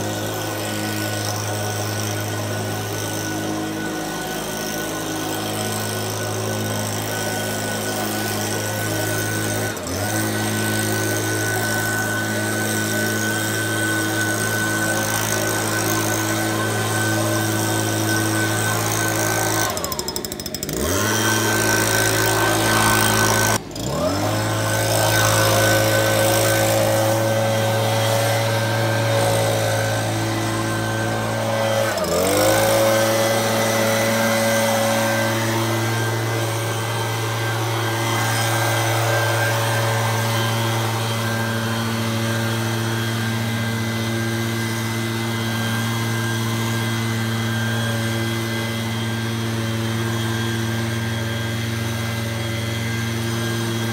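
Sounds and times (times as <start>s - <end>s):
leaf blower engine running: 0.0s - 53.9s.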